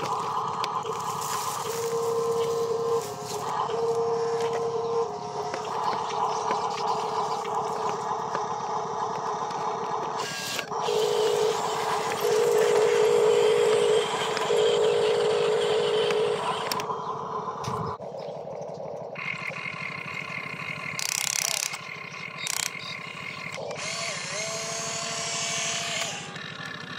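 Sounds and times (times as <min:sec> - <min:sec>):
electric motor and gears whining: 0:00.0 - 0:26.9.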